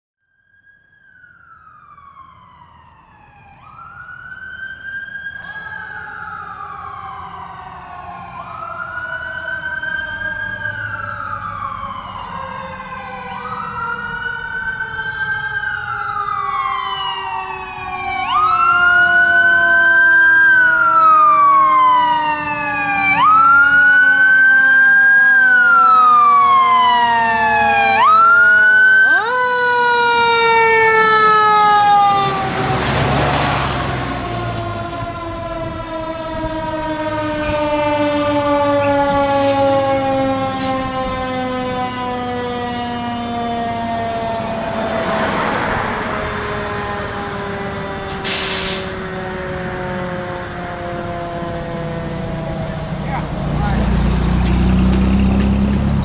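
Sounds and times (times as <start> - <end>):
fire engine siren wailing: 0.2 - 56.0.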